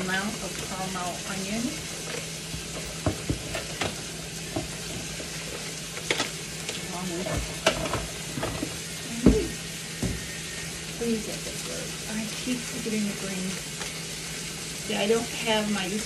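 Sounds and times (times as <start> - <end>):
onions sizzling in a pan: 0.0 - 16.0.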